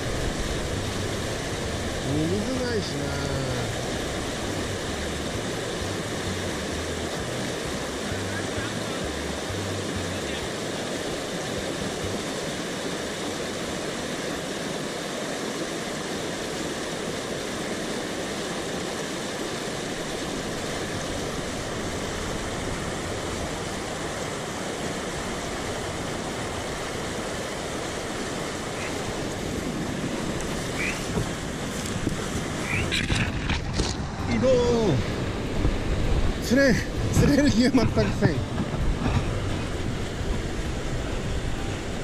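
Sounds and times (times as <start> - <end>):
mountain stream rushing: 0.0 - 42.0.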